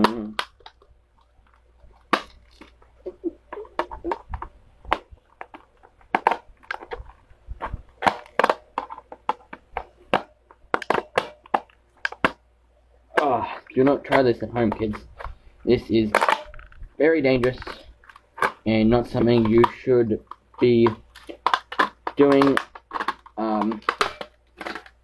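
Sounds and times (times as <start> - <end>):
plastic casing cracking and snapping: 0.0 - 12.4, 16.1 - 25.0.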